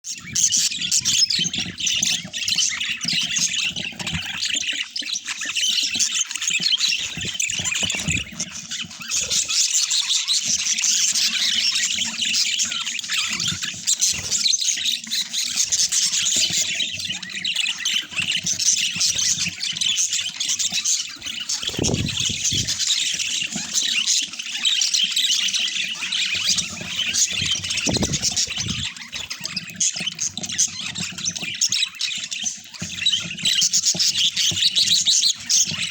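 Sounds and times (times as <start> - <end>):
budgerigars chattering: 0.1 - 35.9.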